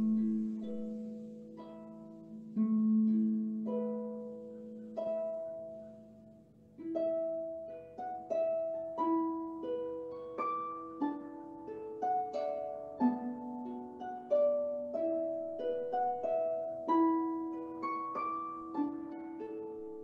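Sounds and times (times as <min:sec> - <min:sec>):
harp playing slow gentle music: 0:00.0 - 0:20.0.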